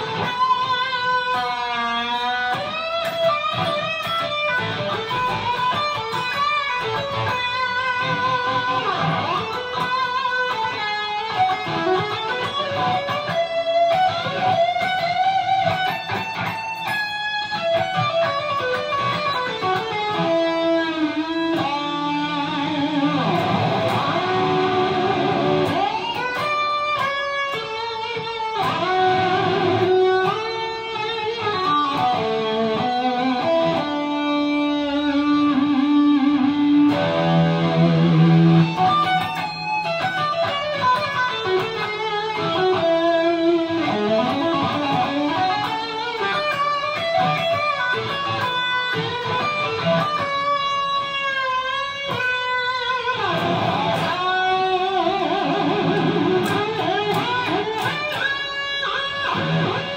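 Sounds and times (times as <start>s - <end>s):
overdriven electric guitar lead: 0.0s - 59.9s.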